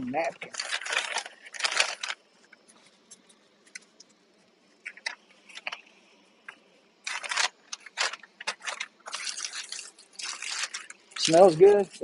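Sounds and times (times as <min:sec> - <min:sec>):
paper rustling and crinkling: 0:00.0 - 0:06.0, 0:07.0 - 0:12.0.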